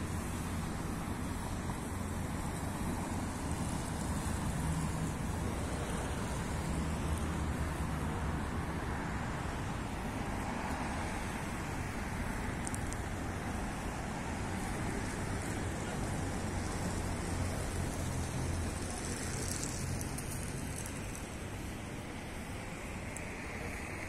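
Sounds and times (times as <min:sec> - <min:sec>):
distant city traffic rumble: 0:00.0 - 0:24.0.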